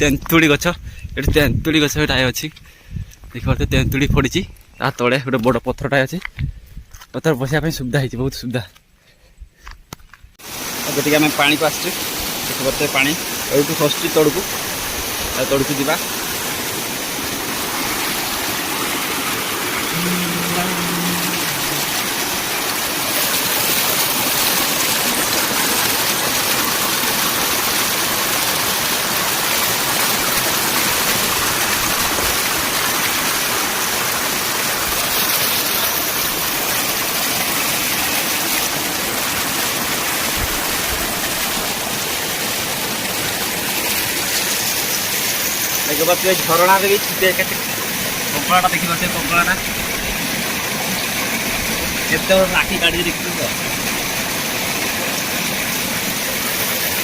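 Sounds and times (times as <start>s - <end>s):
waterfall splashing onto stone: 10.4s - 57.0s.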